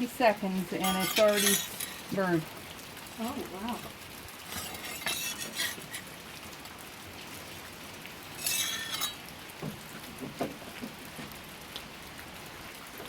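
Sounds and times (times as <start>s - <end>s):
wood fire crackling and hissing: 0.0s - 13.0s.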